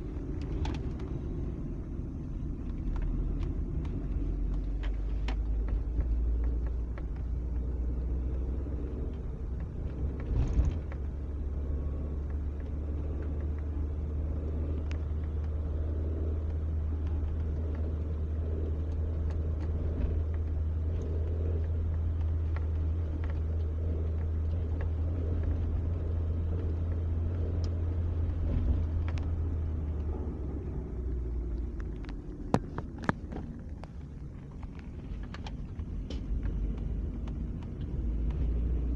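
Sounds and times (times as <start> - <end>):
car engine and road drone: 0.0 - 38.9.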